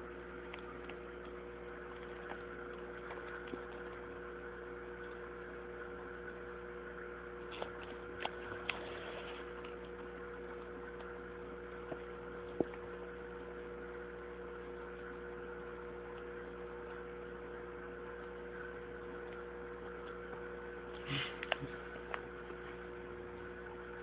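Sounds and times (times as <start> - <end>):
aquarium equipment humming: 0.0 - 24.0.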